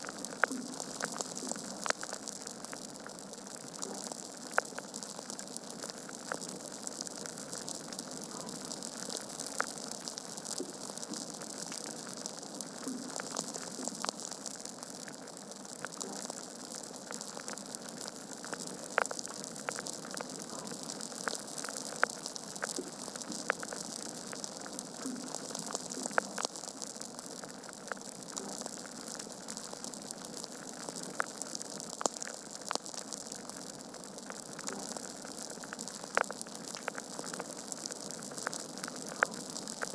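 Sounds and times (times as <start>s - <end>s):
fire pops and snaps: 0.0s - 39.9s
wood fire crackling: 0.0s - 39.9s.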